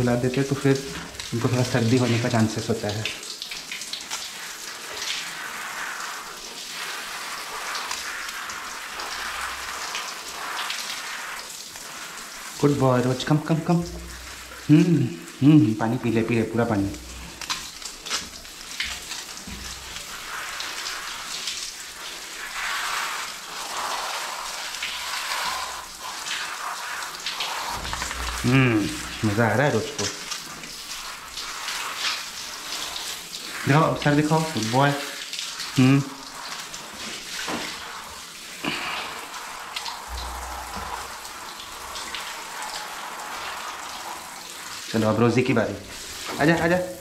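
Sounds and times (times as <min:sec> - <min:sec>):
shower water spraying: 0:00.0 - 0:47.0.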